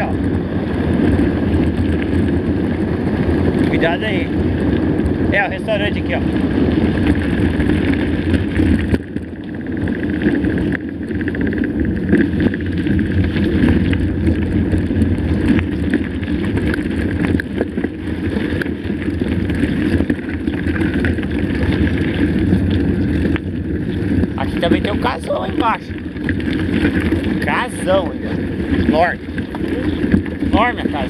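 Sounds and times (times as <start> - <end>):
bike tyres rumbling on dirt: 0.0 - 31.0
wind on microphone: 0.0 - 31.0.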